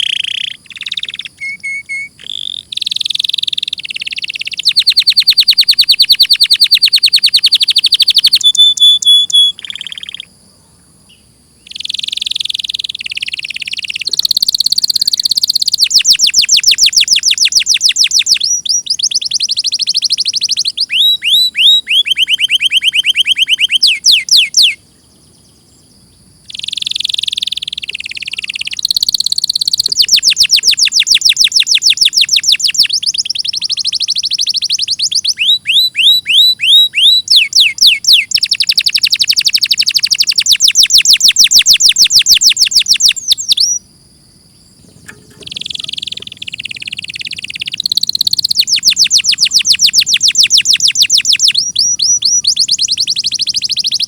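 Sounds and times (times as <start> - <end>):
canary singing trills: 0.0 - 10.4, 11.1 - 43.9, 44.5 - 54.0.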